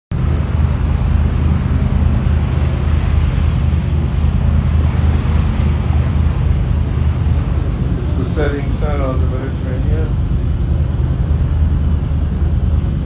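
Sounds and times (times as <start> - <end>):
boat engine humming: 0.1 - 13.0
water rushing along hull: 0.1 - 13.0
wind on microphone: 0.1 - 13.0.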